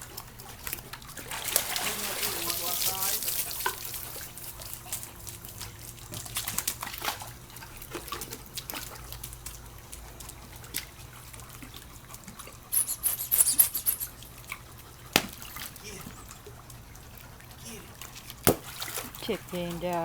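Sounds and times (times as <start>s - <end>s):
dogs splashing in pool water: 0.0s - 20.0s.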